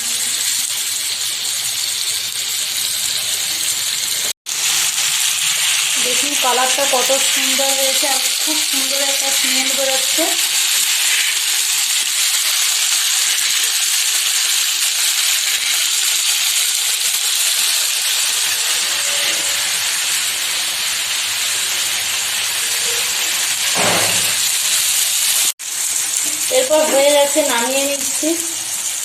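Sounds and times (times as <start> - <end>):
meat sizzling in hot oil: 0.0 - 29.0.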